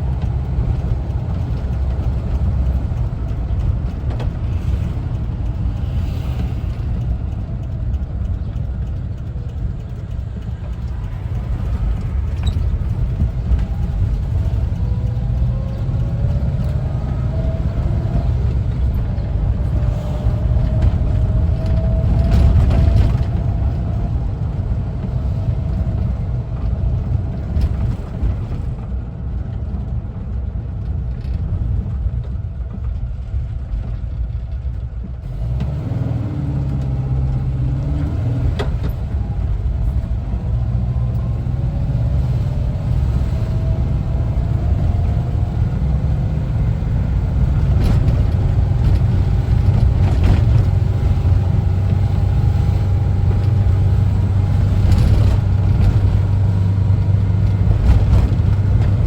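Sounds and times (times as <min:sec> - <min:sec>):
engine whine: 0:00.0 - 0:59.0
van engine running: 0:00.0 - 0:59.0.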